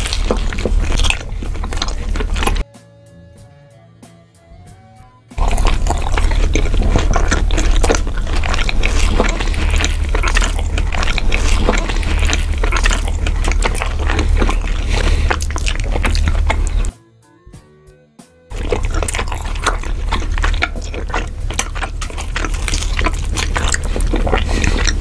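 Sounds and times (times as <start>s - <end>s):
steady low hum: 0.0s - 2.6s, 5.4s - 16.9s, 18.5s - 25.0s
wet chewing and smacking: 0.0s - 2.6s, 5.4s - 16.9s, 18.5s - 25.0s.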